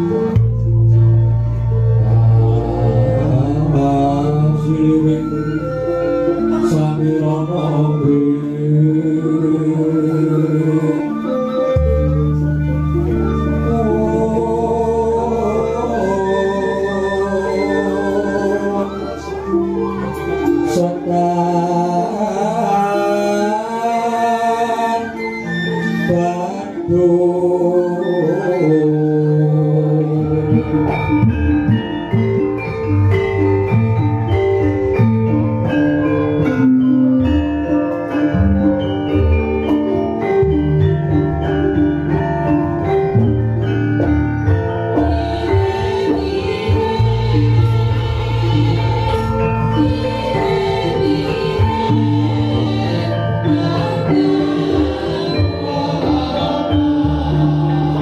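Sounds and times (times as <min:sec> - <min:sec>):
gamelan ensemble playing: 0:00.0 - 0:58.0.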